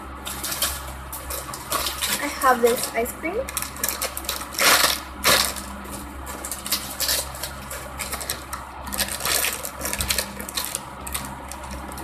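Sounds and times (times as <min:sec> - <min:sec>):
low background hum: 0:00.0 - 0:12.0
plastic packaging crinkling: 0:00.2 - 0:12.0.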